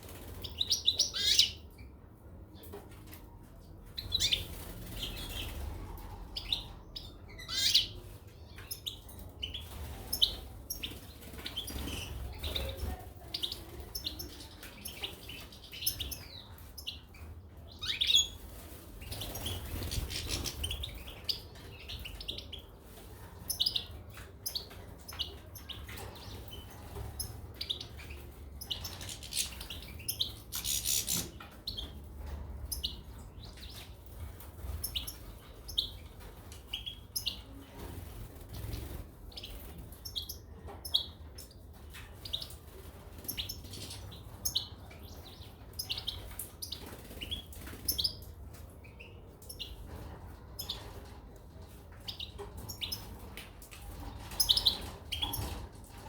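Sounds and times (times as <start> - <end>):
caged finches chirping: 0.0 - 3.0, 3.8 - 56.0.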